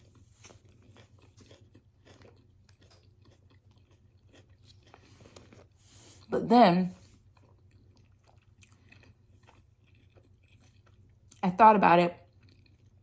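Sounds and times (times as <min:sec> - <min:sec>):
chewing with soft crunches: 0:00.0 - 0:06.3, 0:07.0 - 0:11.4, 0:12.2 - 0:13.0.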